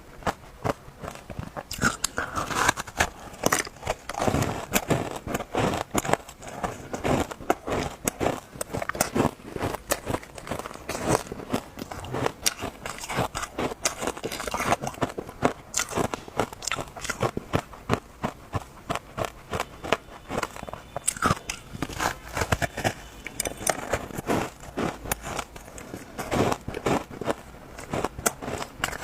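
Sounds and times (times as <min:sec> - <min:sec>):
ice crunching between teeth: 0:00.0 - 0:29.0.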